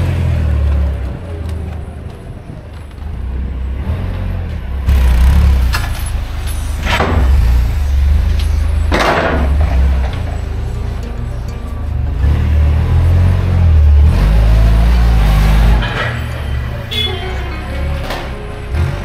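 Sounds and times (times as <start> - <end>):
forklift loading pallets: 0.0 - 19.0.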